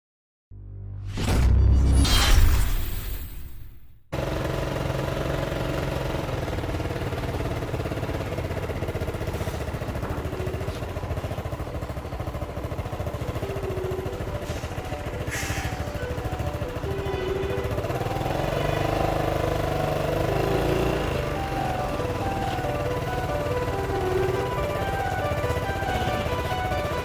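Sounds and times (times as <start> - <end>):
model excavator motor whining: 4.2 - 27.0.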